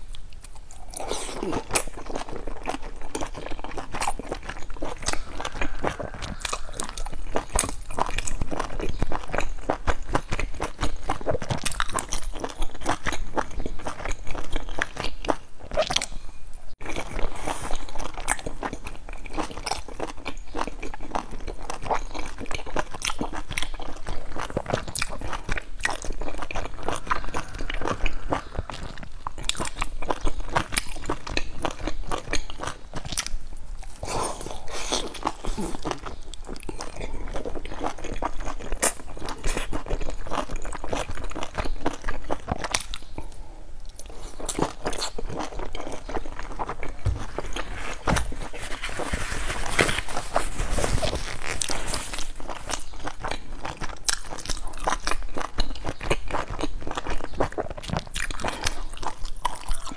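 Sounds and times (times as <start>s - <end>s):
wet chewing clicks: 0.0s - 48.6s, 51.0s - 59.9s.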